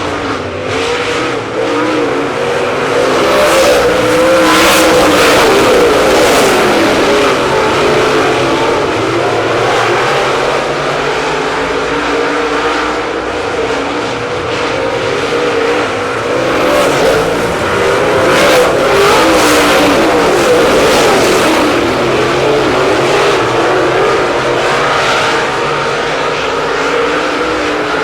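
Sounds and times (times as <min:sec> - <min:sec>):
race car engines at speed: 0:00.0 - 0:28.0.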